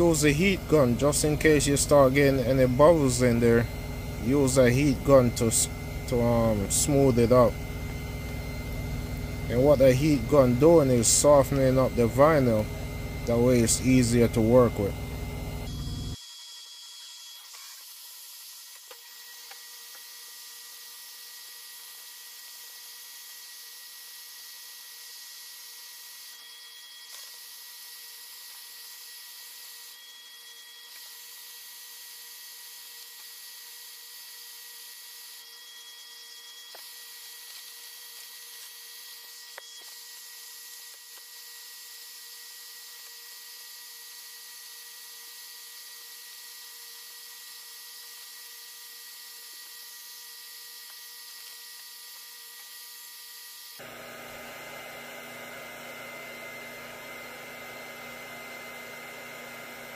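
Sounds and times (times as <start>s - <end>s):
heat gun running: 0.0s - 59.9s.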